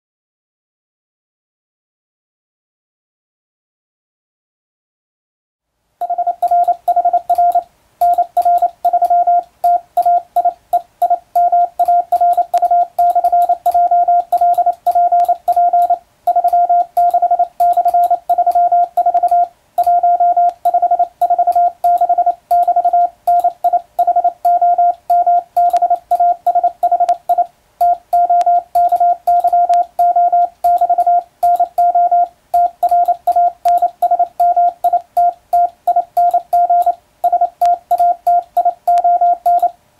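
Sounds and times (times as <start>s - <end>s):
morse code tone: 6.0s - 39.8s.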